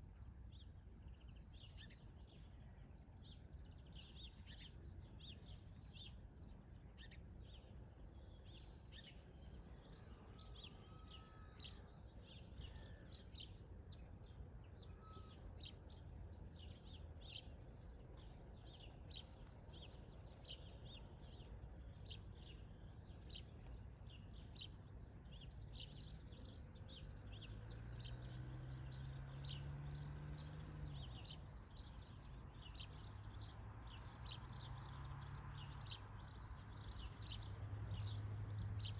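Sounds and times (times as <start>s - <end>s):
outdoor background noise: 0.0s - 38.9s
birds chirping: 0.6s - 38.9s.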